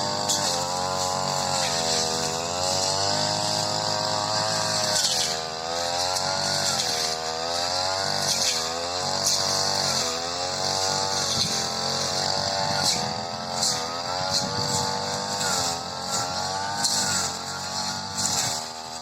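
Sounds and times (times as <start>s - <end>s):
brush cutter engine at high speed: 0.0s - 19.0s.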